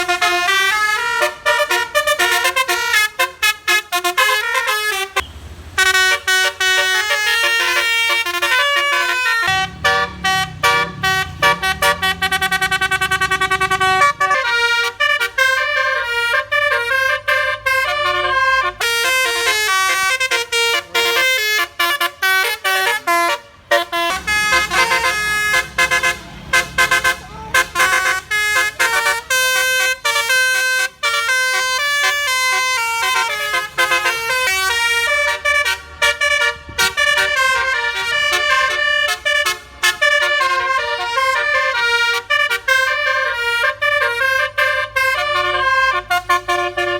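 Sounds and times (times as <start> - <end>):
bus horn playing melodies: 0.0 - 46.9.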